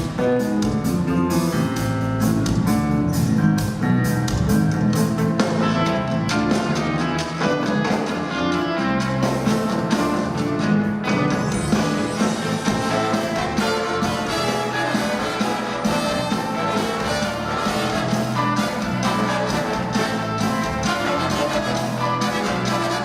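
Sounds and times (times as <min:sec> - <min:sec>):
live band playing pop music: 0:00.0 - 0:23.0.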